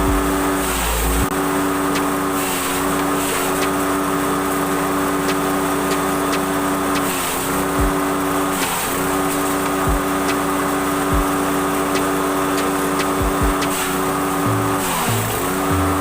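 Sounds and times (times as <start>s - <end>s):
grass chopper engine running: 0.0s - 16.0s.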